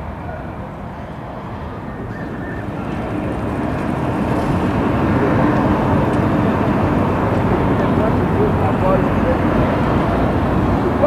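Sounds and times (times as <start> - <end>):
general traffic noise: 0.0 - 11.0
vehicle approaching with low hum: 0.0 - 11.0.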